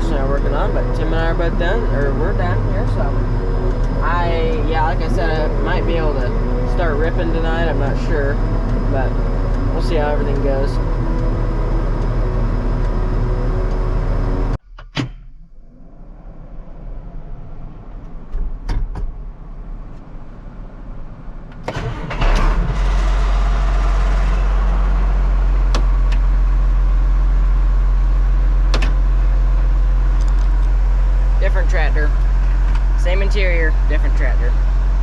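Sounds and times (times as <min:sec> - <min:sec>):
tractor engine starting: 0:00.0 - 0:20.5, 0:21.5 - 0:35.0
tractor engine running: 0:00.0 - 0:35.0.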